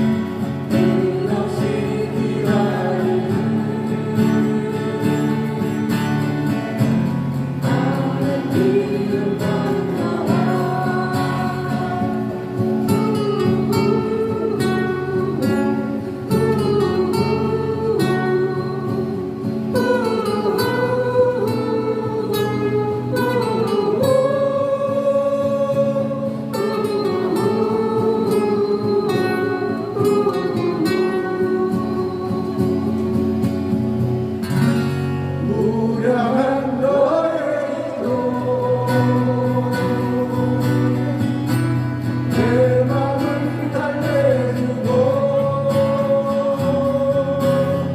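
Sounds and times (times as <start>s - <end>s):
strummed acoustic guitars: 0.0s - 47.9s
person singing: 0.6s - 6.5s, 7.6s - 33.6s, 35.4s - 47.9s.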